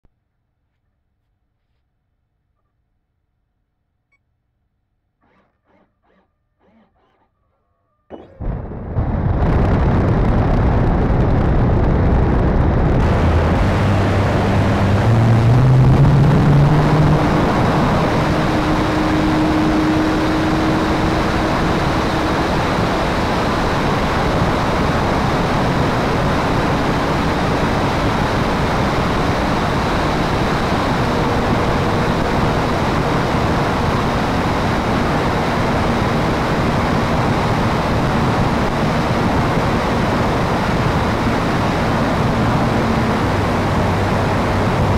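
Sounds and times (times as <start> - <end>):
propeller aircraft engine at high power: 8.1 - 44.9
heavy wind rush on camera: 8.2 - 44.9.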